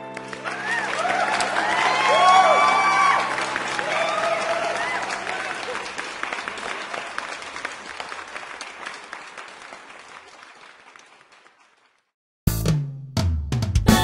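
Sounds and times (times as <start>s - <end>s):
crowd applause: 0.0s - 12.1s.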